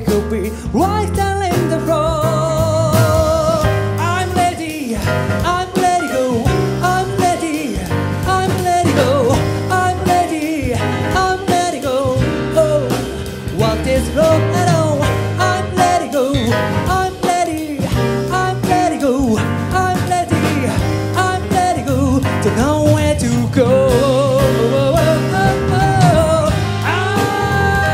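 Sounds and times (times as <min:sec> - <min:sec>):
jazz band playing: 0:00.0 - 0:27.9
man singing: 0:00.0 - 0:27.9.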